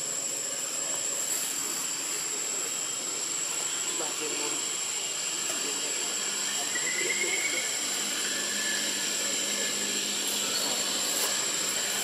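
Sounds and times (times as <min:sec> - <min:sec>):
high-pitched whine: 0:00.0 - 0:12.0
outdoor background hiss: 0:00.0 - 0:12.0.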